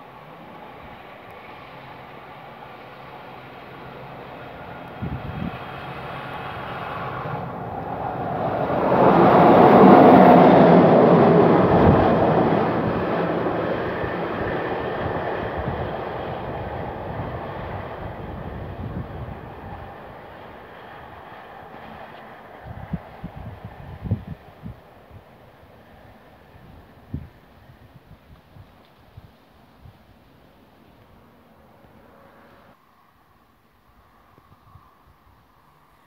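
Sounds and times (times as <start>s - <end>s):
freight train wheels rumbling: 0.0s - 32.8s.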